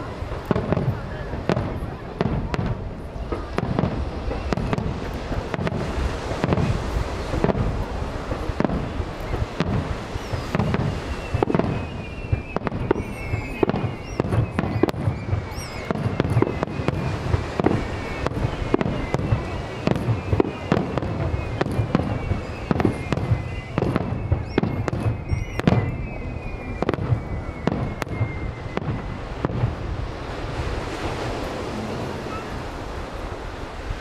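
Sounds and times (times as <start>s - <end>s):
firework shells booming and crackling: 0.0s - 34.0s
high falling firework whistles: 3.2s - 34.0s.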